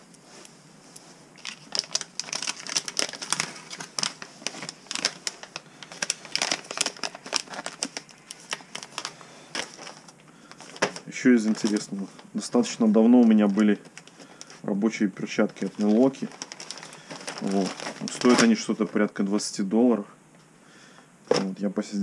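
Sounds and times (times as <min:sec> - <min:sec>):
plastic packaging crinkling: 0:01.4 - 0:19.3, 0:21.3 - 0:21.6.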